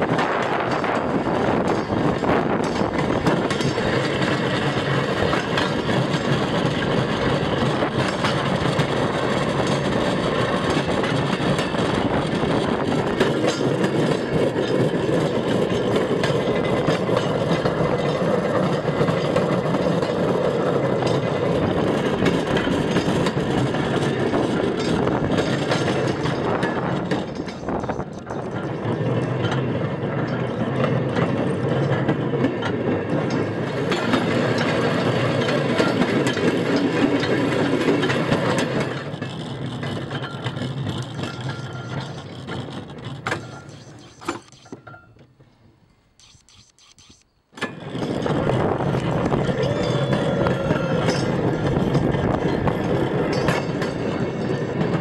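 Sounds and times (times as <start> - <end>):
rail cart wheels rattling on rails: 0.0 - 55.0.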